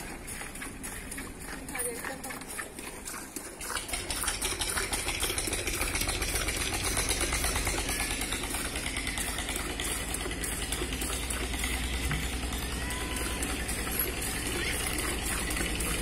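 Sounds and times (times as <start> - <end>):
milk squirting into a steel bucket: 0.0 - 12.6, 13.3 - 16.0
low engine hum: 0.0 - 16.0.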